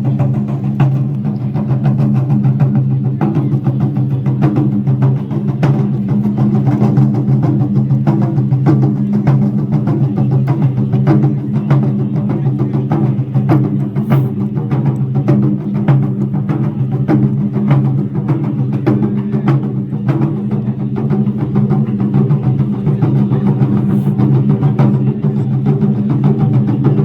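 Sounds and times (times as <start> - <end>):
taiko drum strikes: 0.0 - 27.0.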